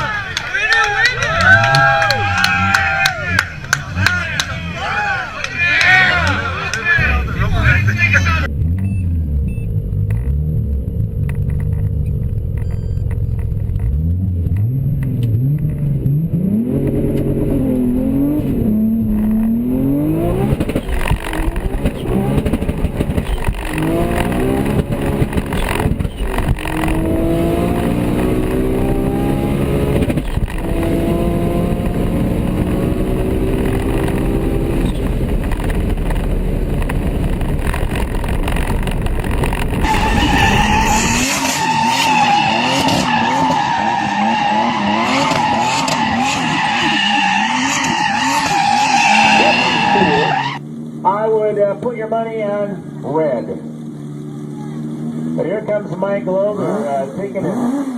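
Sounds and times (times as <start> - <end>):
turbocharged car engine revving: 1.2 - 57.9.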